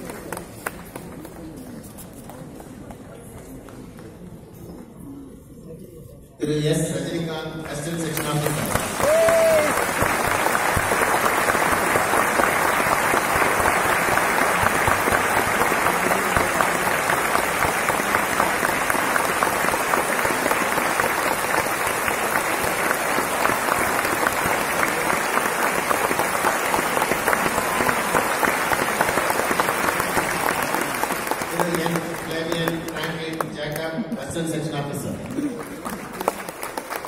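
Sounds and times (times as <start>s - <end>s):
audience applauding: 0.0s - 1.5s, 7.7s - 34.0s, 35.1s - 37.0s.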